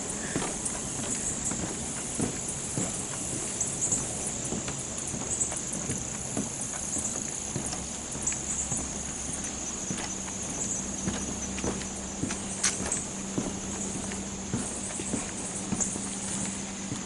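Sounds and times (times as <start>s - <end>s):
footsteps on wooden boardwalk: 0.0s - 17.0s
insects hissing: 0.0s - 17.0s.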